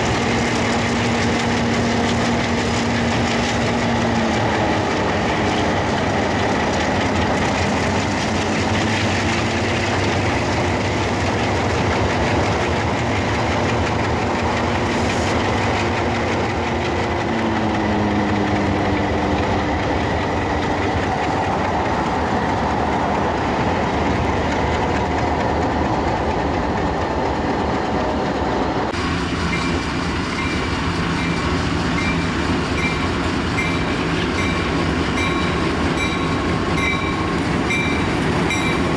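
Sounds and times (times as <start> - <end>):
train rumbling on tracks: 0.0 - 38.9
wheels clacking over rail joints: 0.0 - 38.9.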